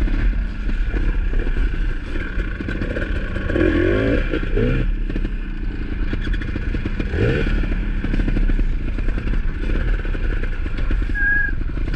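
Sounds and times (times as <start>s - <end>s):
dirt bike engines running: 0.0s - 11.9s.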